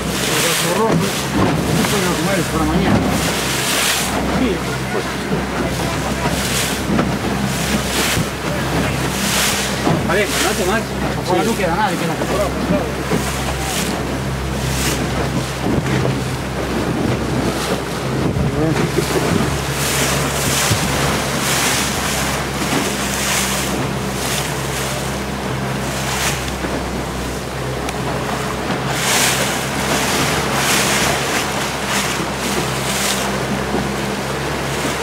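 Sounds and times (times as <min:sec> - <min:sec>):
boat engine humming: 0:00.0 - 0:35.0
waves splashing against hull: 0:00.0 - 0:35.0
wind buffeting microphone: 0:00.0 - 0:35.0.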